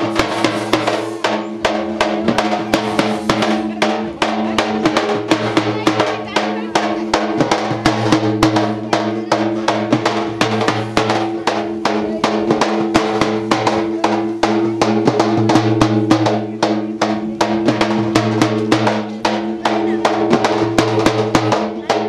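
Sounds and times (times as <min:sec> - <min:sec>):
fast drum strokes: 0:00.0 - 0:22.0.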